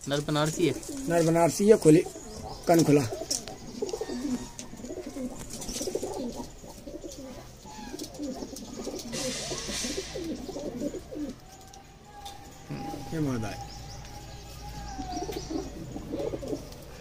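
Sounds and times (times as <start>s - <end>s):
pigeons cooing: 0.4s - 17.0s.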